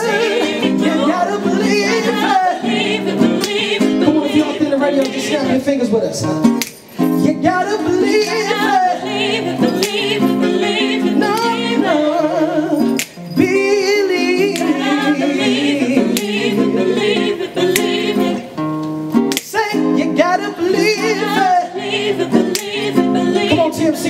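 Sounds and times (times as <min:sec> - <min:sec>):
gospel choir singing: 0:00.0 - 0:18.7, 0:19.3 - 0:24.0.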